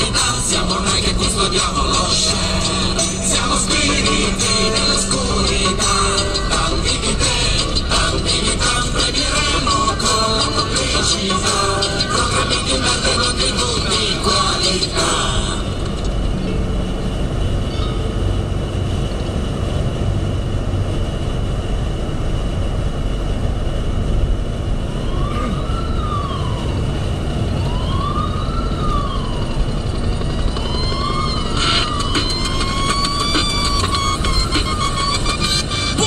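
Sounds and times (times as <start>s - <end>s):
siren-like wailing tone: 0.0s - 18.7s, 24.8s - 36.0s
car engine road and wind noise: 0.0s - 36.0s.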